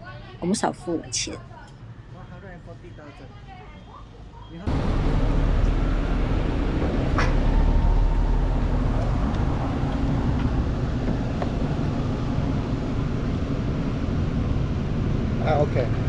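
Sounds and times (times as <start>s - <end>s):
road traffic rumble: 1.8s - 16.0s.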